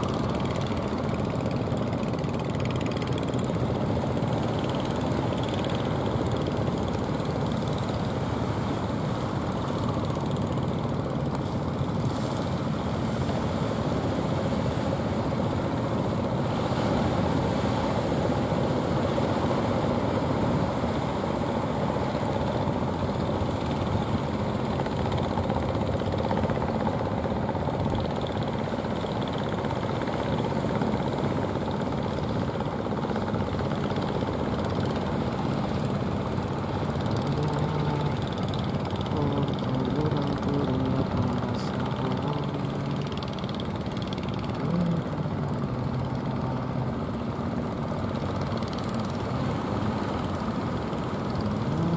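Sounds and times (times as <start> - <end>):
boat engines droning: 0.0 - 51.9.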